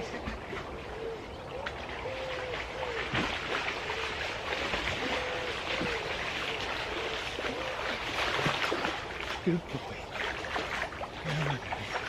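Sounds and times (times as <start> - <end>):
river water lapping: 0.0 - 12.0.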